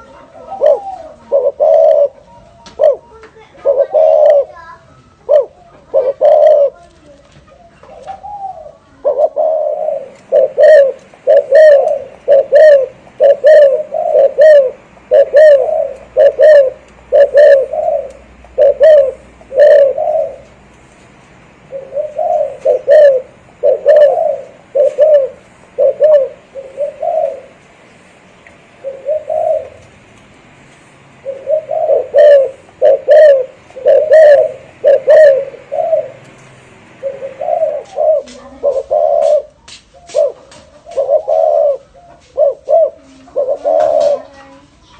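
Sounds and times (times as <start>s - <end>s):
dove cooing: 0.0s - 20.6s, 21.6s - 27.9s, 28.7s - 30.1s, 31.2s - 44.9s.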